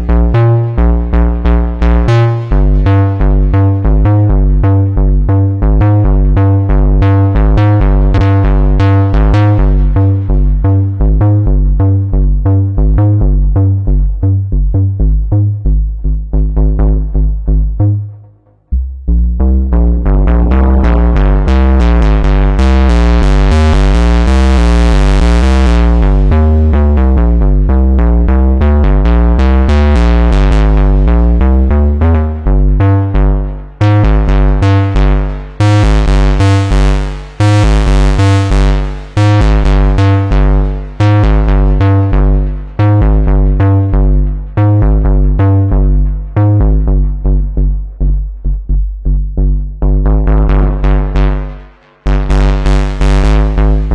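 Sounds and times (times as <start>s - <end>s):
synthesizer bass notes: 0.0s - 53.9s.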